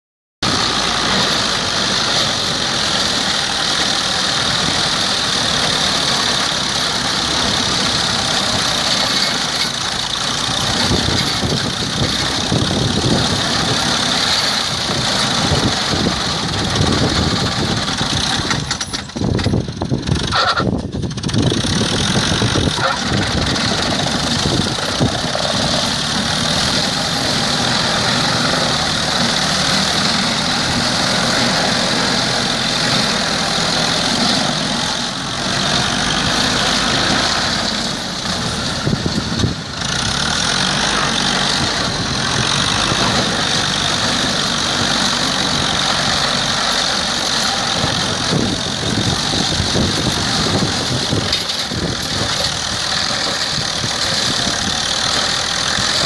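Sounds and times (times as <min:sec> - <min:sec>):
tractor diesel engine under load: 0:00.4 - 0:56.0.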